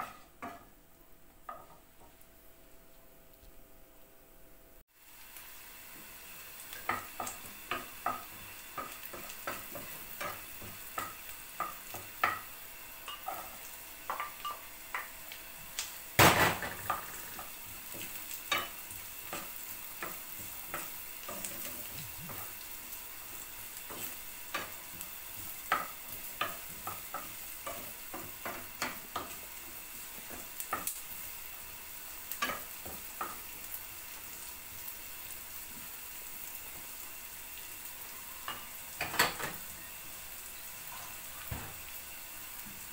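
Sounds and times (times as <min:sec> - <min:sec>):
food sizzling in frying pan: 0:00.0 - 0:02.8, 0:04.8 - 0:42.9.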